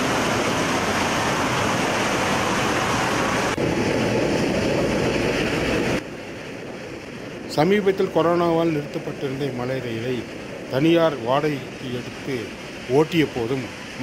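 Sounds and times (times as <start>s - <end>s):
train rushing rumble: 0.0s - 14.0s.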